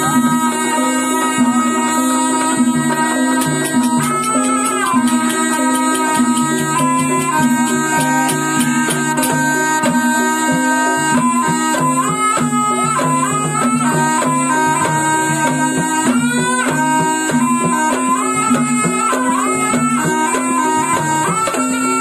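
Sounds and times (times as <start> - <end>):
gamelan: 0.0 - 22.0
percussion strokes: 0.0 - 22.0
shawm melody: 0.0 - 22.0.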